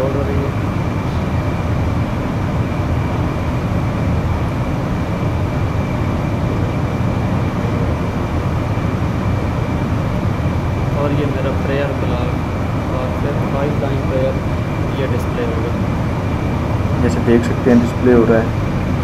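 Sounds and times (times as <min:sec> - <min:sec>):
faint high whine: 0:00.0 - 0:19.0
low background rumble: 0:00.0 - 0:19.0.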